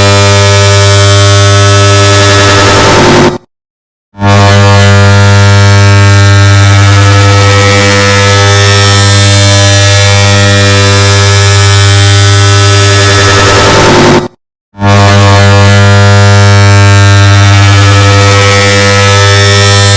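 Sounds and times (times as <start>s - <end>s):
distorted electrical buzz: 0.0s - 3.5s, 4.2s - 19.9s.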